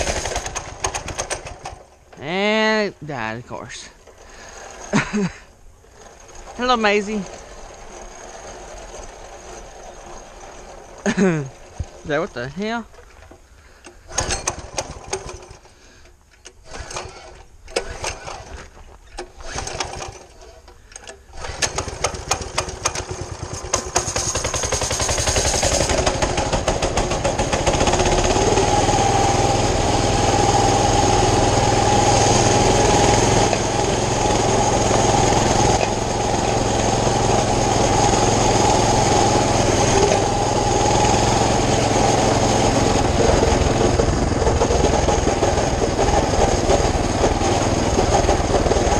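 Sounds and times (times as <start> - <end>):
small engine sputtering and running: 0.0 - 2.3, 3.9 - 48.9.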